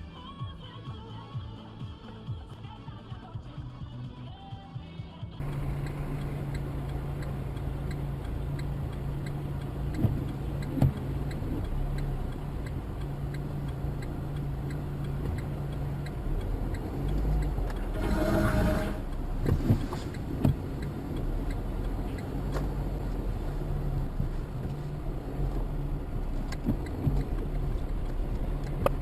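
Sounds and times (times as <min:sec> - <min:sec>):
faint even ticking: 0:05.4 - 0:29.0
vehicle engine droning: 0:05.4 - 0:29.0.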